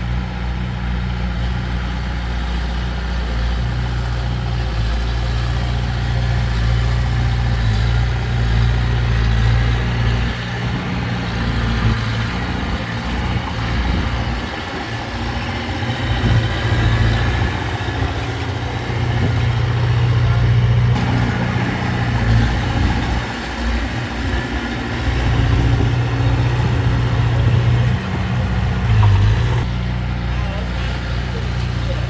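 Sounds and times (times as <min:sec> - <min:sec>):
heavy diesel engine drone: 0:00.0 - 0:32.0.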